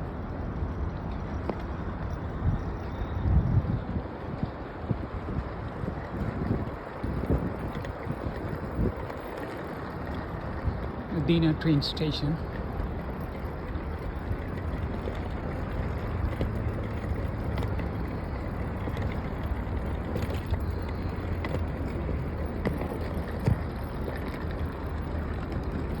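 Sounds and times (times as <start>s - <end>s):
high-speed train rumbling: 0.0s - 26.0s.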